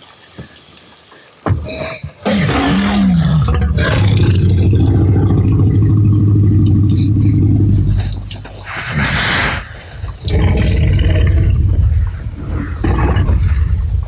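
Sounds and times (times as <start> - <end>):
deep rumbling growl: 2.5 - 14.0.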